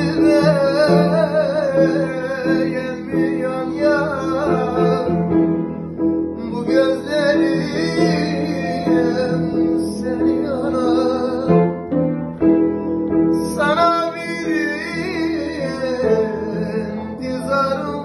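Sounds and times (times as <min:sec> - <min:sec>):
person singing folk song: 0:00.0 - 0:05.4, 0:06.4 - 0:11.7, 0:13.4 - 0:18.0
keyboard accompaniment: 0:00.0 - 0:18.0.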